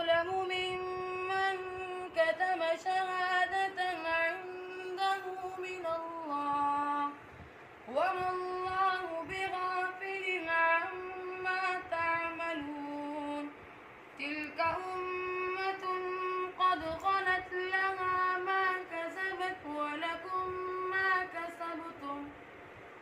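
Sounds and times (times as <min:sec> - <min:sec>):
boy chanting recitation: 0:00.0 - 0:07.2, 0:07.8 - 0:13.6, 0:14.2 - 0:22.3.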